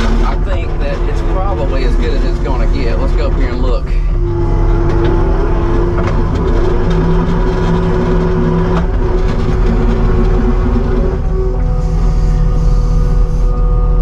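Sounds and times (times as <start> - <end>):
diesel engine running: 0.0 - 14.0
low hum: 0.0 - 14.0.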